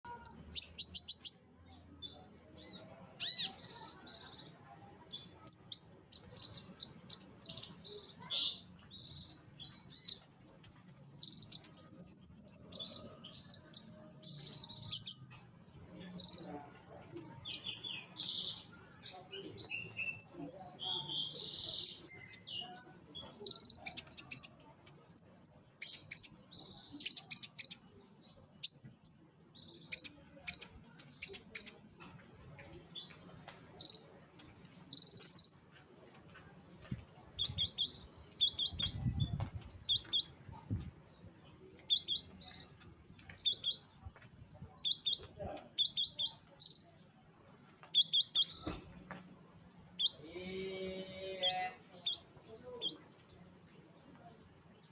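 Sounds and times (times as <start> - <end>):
bird singing high chirps: 0.0 - 10.3, 11.2 - 32.2, 33.0 - 35.7, 37.4 - 48.8, 49.4 - 54.4.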